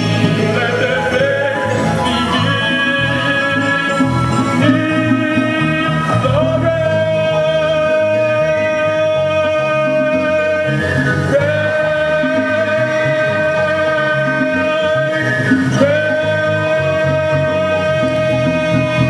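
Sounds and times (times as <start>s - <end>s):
band playing: 0.0s - 19.0s
person singing long held notes: 0.0s - 19.0s.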